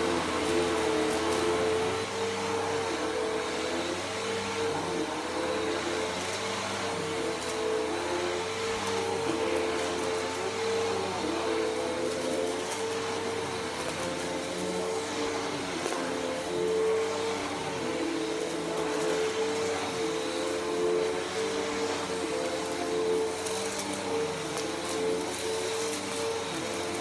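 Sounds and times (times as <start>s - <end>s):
vacuum cleaner on carpet: 0.0s - 27.0s.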